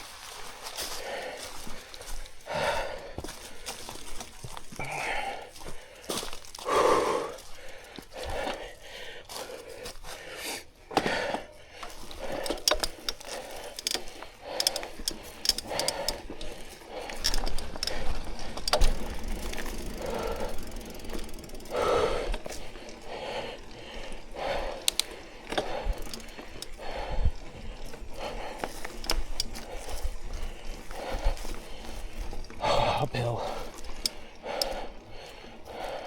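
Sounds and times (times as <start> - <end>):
bike chain and frame rattling: 0.0 - 36.0.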